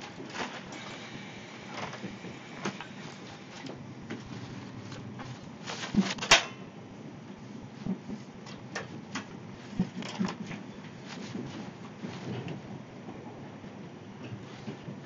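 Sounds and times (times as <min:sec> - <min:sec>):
train carriage rumble: 0:00.0 - 0:15.0.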